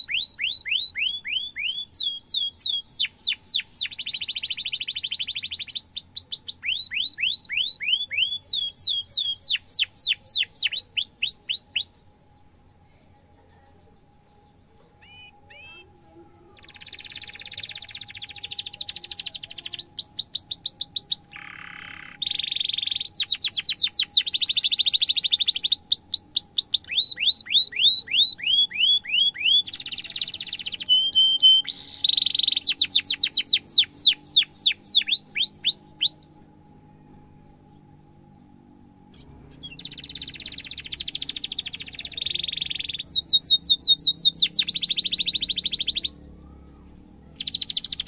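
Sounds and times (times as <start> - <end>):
canary singing trills: 0.0 - 36.4, 39.0 - 48.0.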